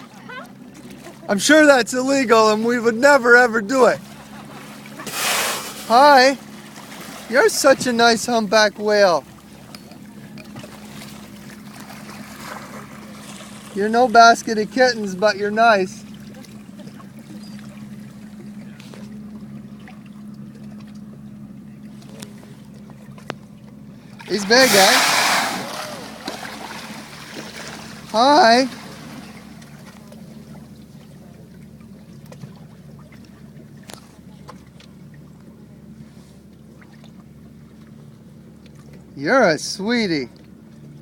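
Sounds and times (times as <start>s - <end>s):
boat engine idling: 0.0s - 41.0s
water lapping at hull: 0.0s - 41.0s.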